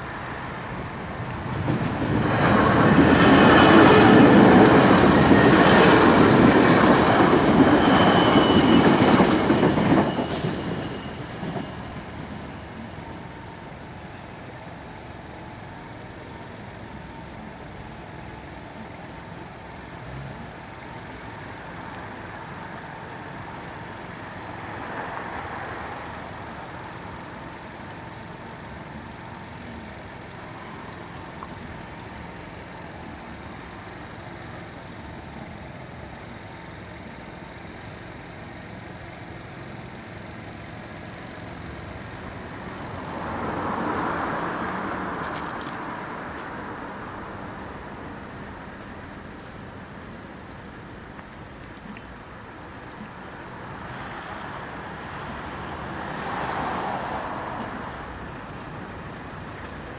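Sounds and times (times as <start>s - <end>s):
traffic hum: 0.0s - 59.9s.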